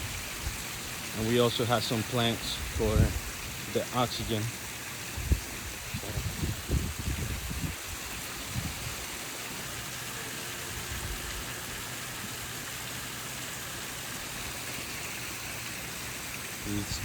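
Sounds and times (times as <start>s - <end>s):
water flowing and splashing: 0.0s - 17.0s.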